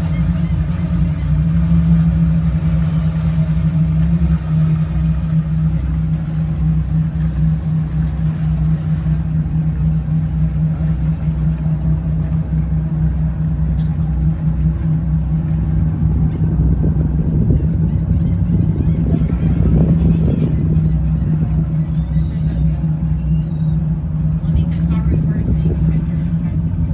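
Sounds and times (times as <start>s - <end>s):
boat engines droning: 0.0s - 26.9s.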